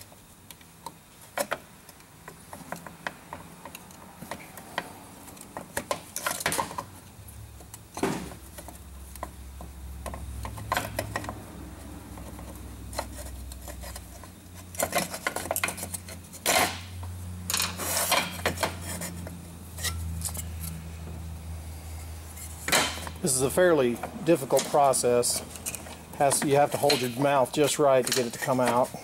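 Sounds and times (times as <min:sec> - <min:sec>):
metallic clicks and scrapes: 0:00.6 - 0:09.4, 0:10.0 - 0:20.8, 0:21.8 - 0:29.0.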